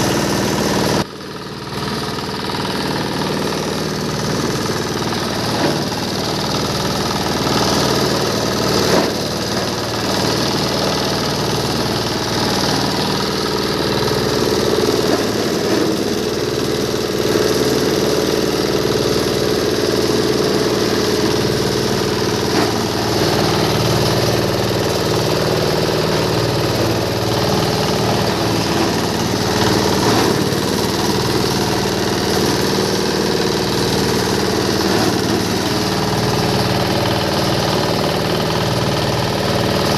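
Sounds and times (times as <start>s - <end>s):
shredding machine hum: 0.0s - 39.9s.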